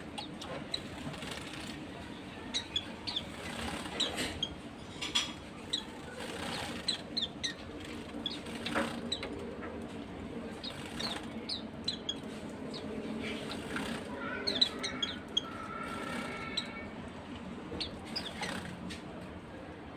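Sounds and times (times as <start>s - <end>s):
wings fluttering: 0.0s - 4.6s, 5.4s - 16.8s, 17.7s - 18.9s
birds chirping high: 0.0s - 18.8s.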